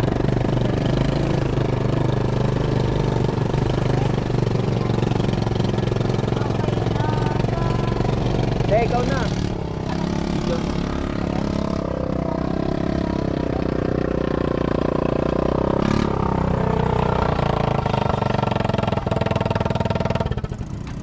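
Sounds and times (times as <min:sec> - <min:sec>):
quad bike engine idling: 0:00.0 - 0:21.0.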